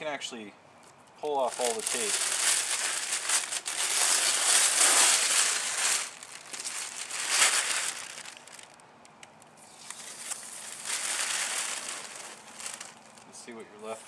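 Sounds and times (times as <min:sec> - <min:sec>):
masking paper crinkling: 0:01.3 - 0:08.8, 0:09.7 - 0:14.0.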